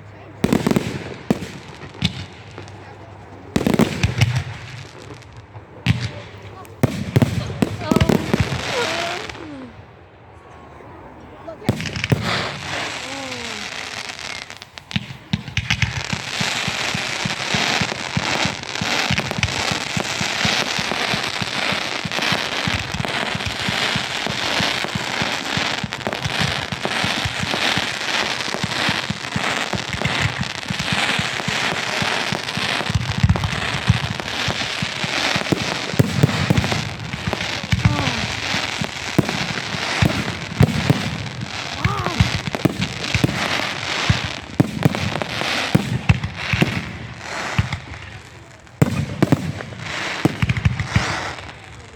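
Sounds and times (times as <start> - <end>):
deep firework bangs: 0.0 - 9.8, 11.6 - 51.9
fireworks crackling and popping: 0.0 - 9.8, 11.5 - 51.9.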